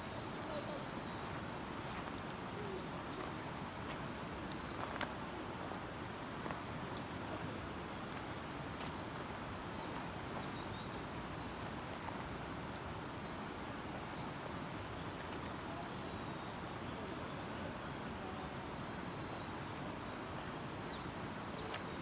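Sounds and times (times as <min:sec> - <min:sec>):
small crackling clicks: 0:00.2 - 0:22.0.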